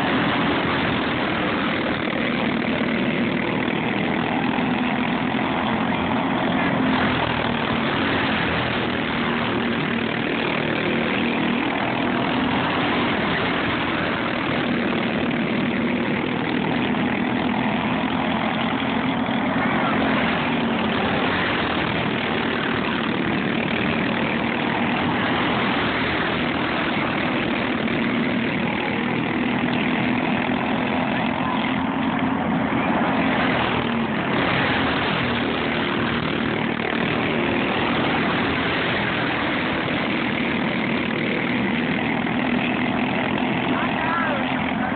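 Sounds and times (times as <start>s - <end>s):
racing go-kart engines revving: 0.0s - 44.9s.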